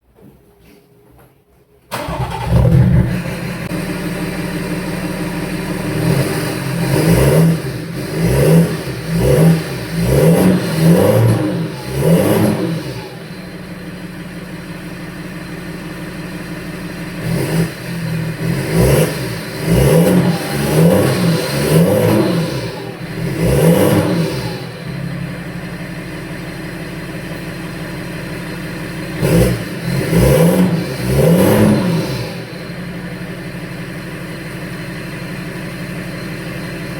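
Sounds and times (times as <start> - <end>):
diesel engine idling and revving: 1.9 - 36.9.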